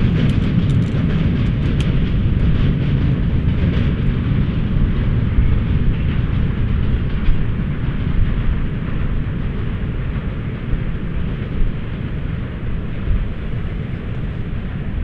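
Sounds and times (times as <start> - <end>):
diesel locomotive engine rumble: 0.0 - 15.0
train wheels rolling: 0.0 - 15.0.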